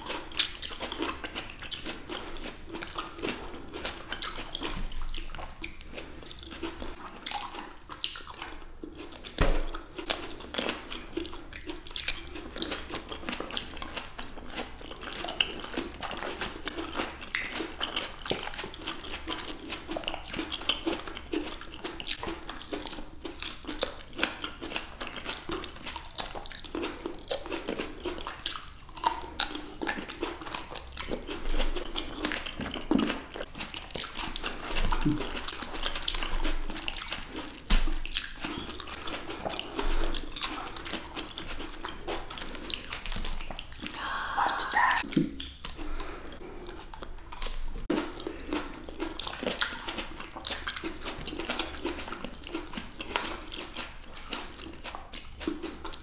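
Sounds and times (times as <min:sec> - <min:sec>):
people chewing grapes: 0:00.0 - 0:56.0.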